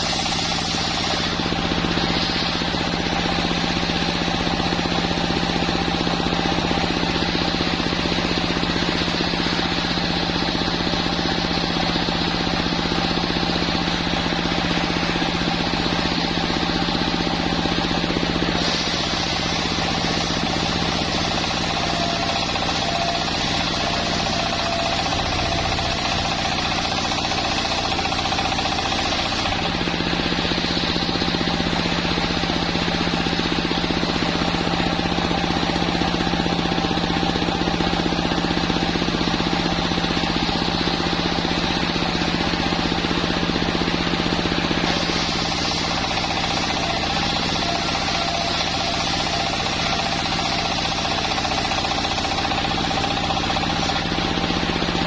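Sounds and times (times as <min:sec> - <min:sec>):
sawmill saw droning and whining: 0:00.0 - 0:55.0.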